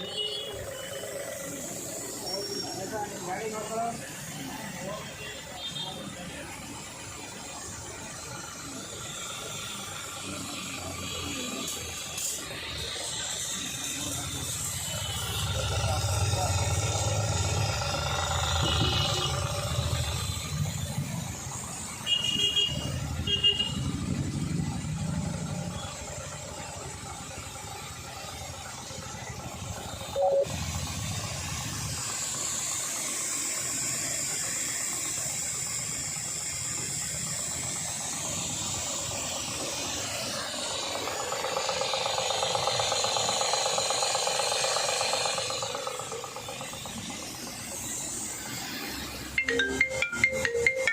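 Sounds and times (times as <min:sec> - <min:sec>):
power sprayer motor running: 0:00.0 - 0:49.7
pressurised spray hissing: 0:00.0 - 0:50.9.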